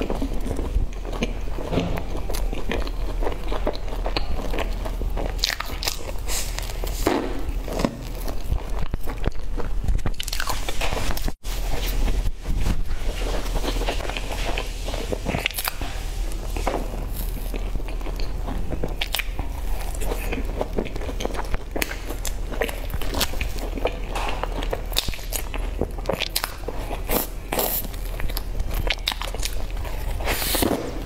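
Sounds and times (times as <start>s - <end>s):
crunching of crisp pastry: 0.0s - 31.0s
soft chewing: 0.0s - 31.0s.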